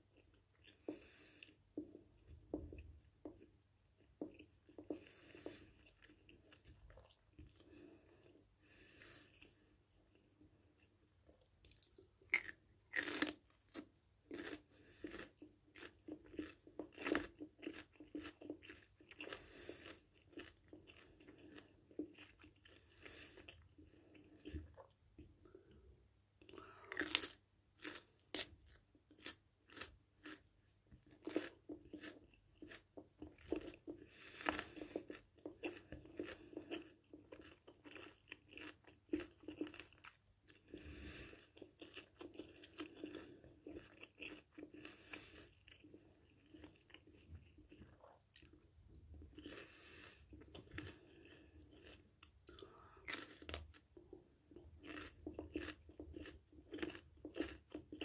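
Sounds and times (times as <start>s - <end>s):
person chewing crunchy pepper: 0.0s - 58.0s.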